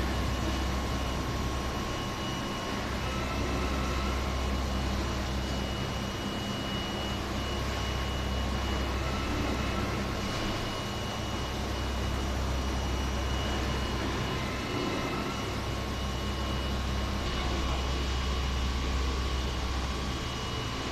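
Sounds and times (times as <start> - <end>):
electric air blowers droning: 0.0 - 20.9.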